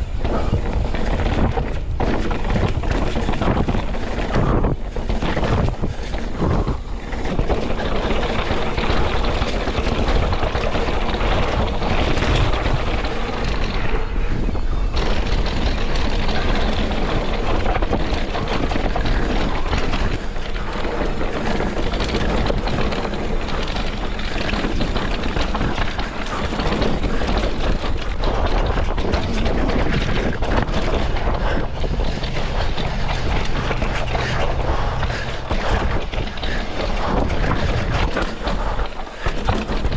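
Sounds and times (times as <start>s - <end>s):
bike rattling and knocking: 0.0s - 39.9s
wind rushing over microphone: 0.0s - 39.9s.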